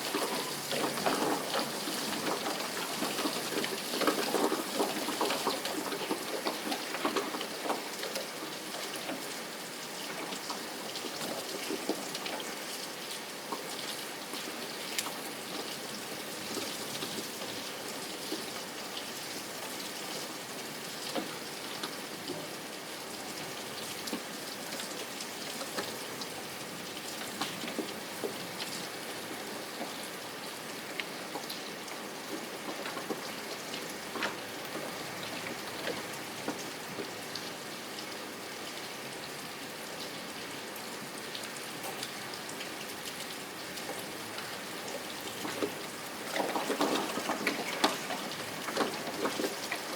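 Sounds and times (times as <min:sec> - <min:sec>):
raindrops ticking close by: 0:00.0 - 0:49.9
steady rain: 0:00.0 - 0:49.9.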